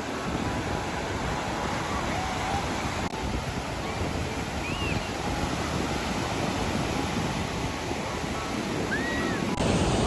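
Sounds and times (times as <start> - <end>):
ocean surf: 0.0 - 10.0
wind on microphone: 0.0 - 10.0.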